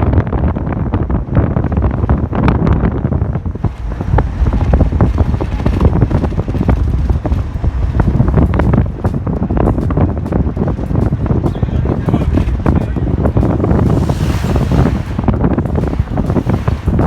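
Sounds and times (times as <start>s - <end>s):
bus rumbling: 0.0s - 17.0s
wind buffeting microphone: 0.0s - 17.0s.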